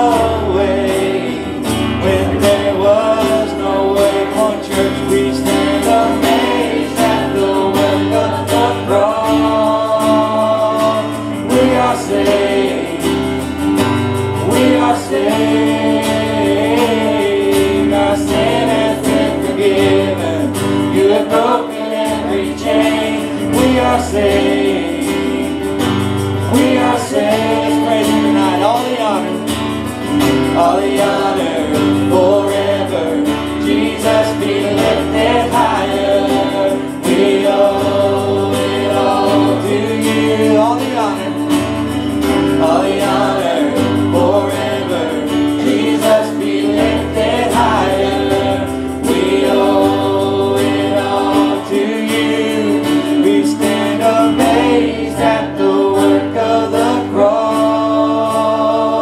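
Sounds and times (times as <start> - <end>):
live worship band playing: 0.0 - 59.0.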